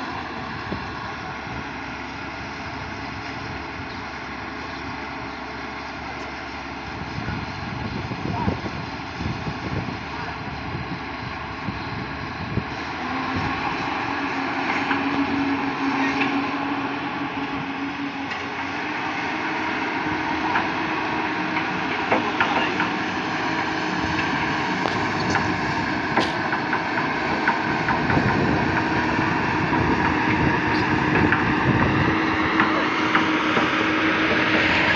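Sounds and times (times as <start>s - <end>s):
excavator diesel engine running: 0.0s - 34.9s
hydraulic humming whine: 0.0s - 34.9s.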